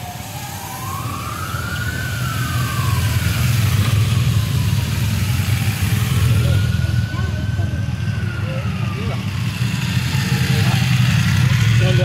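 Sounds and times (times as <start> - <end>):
motorcycle engine rumble: 0.0 - 12.0
siren wailing: 0.0 - 12.0.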